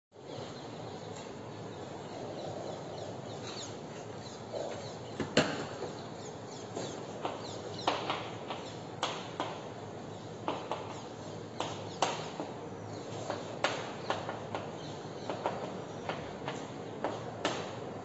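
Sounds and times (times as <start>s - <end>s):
room noise: 0.1s - 18.0s.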